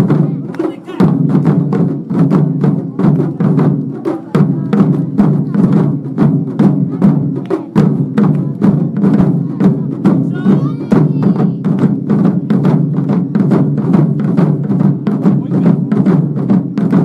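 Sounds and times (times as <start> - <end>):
taiko drums playing fast rhythm: 0.0 - 17.0.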